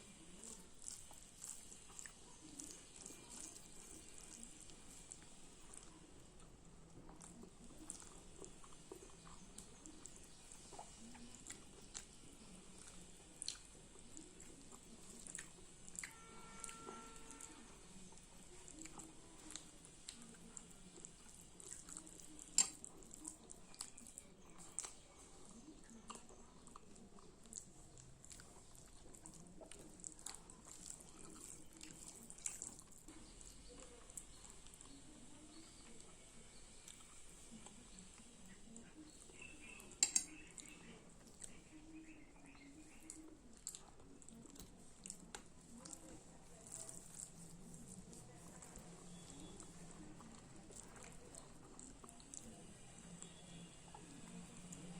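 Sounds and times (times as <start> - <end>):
person chewing: 0.0 - 35.0, 36.7 - 41.8, 42.4 - 54.9.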